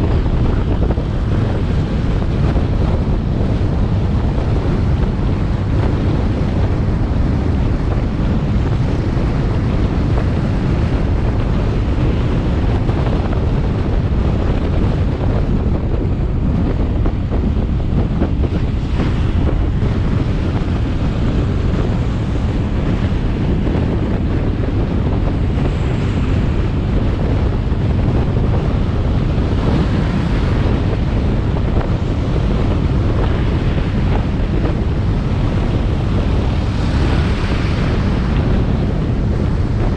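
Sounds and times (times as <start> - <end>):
road noise: 0.0 - 39.9
wind rushing over microphone: 0.0 - 39.9.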